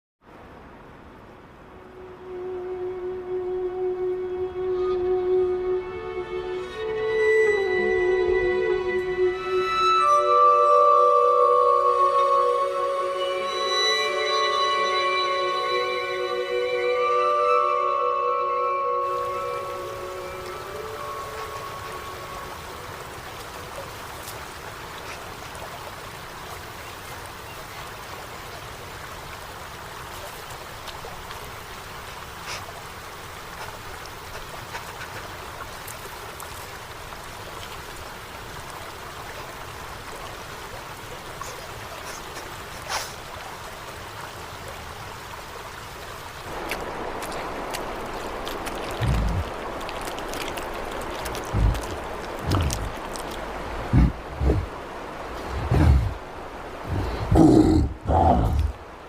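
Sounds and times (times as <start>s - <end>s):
rushing water: 0.2s - 59.0s.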